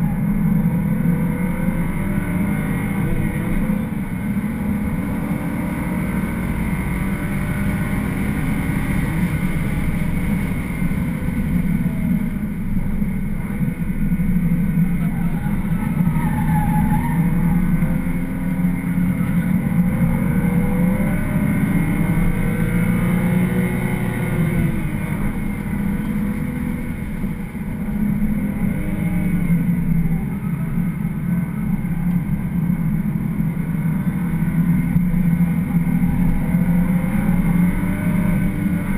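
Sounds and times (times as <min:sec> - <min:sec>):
car engine revving: 0:00.0 - 0:38.9
road and wind noise: 0:00.0 - 0:38.9.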